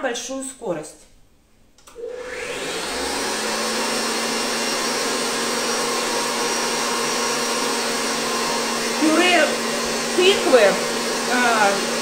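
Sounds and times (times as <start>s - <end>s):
stand mixer whirring: 2.0s - 12.0s.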